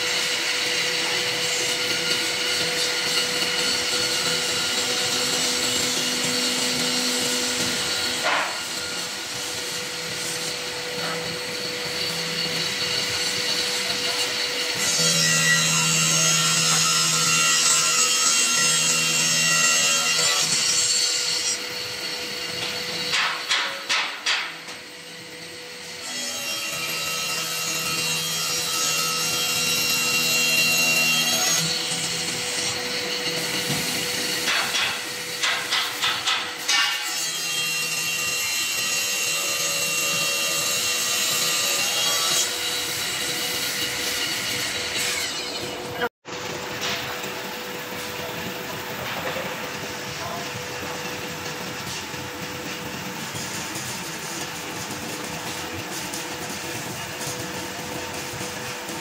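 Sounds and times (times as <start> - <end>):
circular saw cutting wood: 0.0 - 59.0
machine whine: 0.0 - 59.0.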